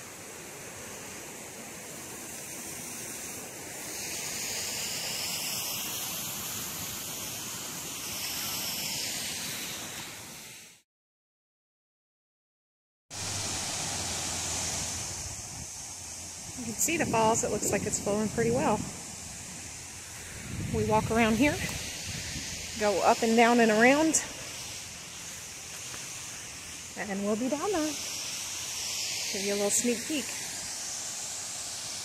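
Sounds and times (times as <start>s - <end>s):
creek water rushing: 0.0s - 10.3s, 13.2s - 32.0s.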